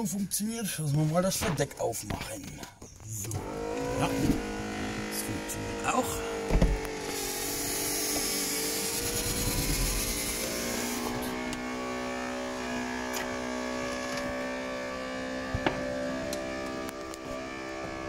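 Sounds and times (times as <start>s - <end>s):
convertible roof motor whirring: 3.1s - 18.0s.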